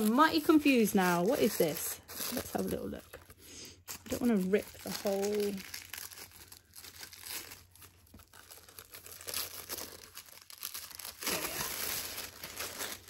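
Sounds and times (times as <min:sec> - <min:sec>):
paper crinkling and tearing: 0:00.0 - 0:13.0.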